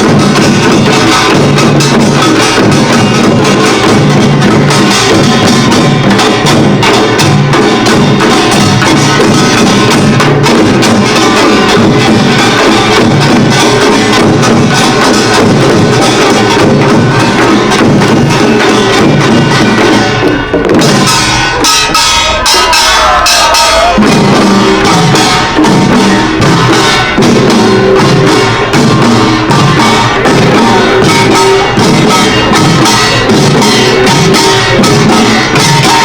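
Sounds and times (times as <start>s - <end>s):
percussion band on gongs and drums: 0.0s - 36.0s.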